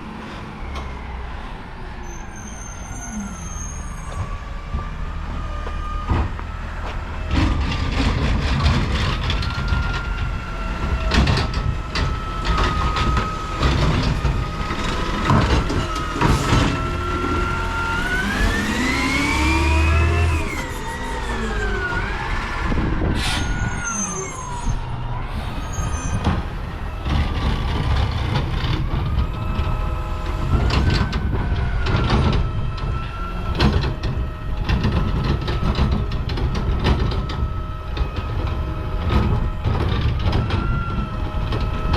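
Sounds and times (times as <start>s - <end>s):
garbage truck engine and hydraulics: 0.0s - 41.9s.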